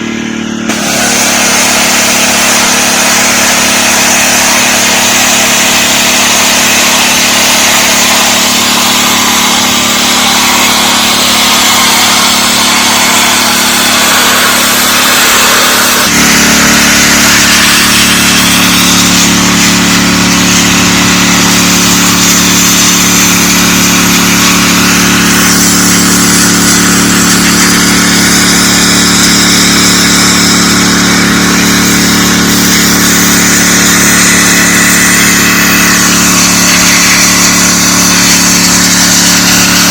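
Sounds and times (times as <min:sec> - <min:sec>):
high-pressure water spray hissing: 0:00.0 - 0:39.9
pressure washer engine running: 0:00.0 - 0:39.9.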